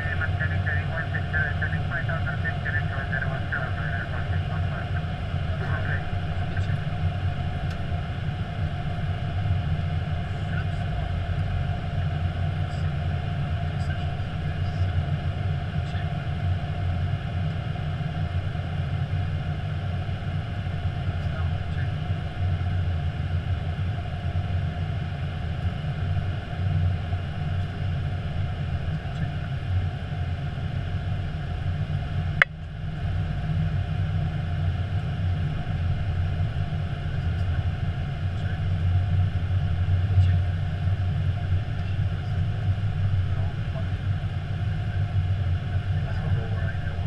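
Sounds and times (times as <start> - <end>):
airplane cockpit rumble: 0.0 - 47.0
faint steady hum: 0.0 - 47.0.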